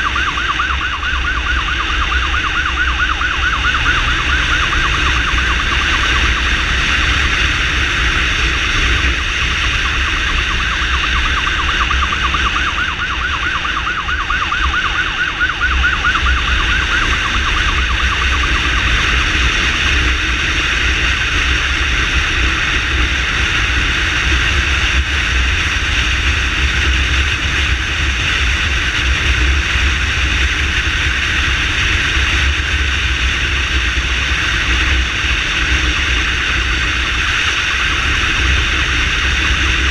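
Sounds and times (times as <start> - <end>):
low rumble and rush of riding: 0.0 - 39.9
warbling ambulance siren: 0.0 - 39.9.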